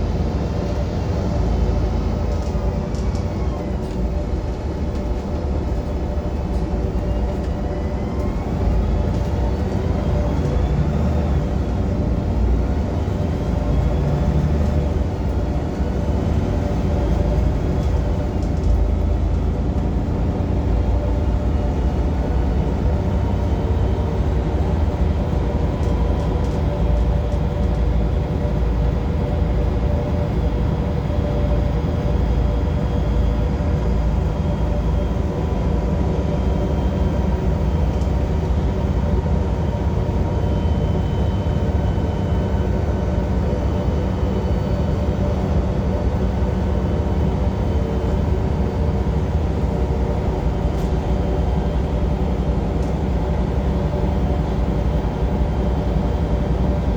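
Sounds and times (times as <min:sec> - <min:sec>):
bus engine low rumbling: 0:00.0 - 0:56.9.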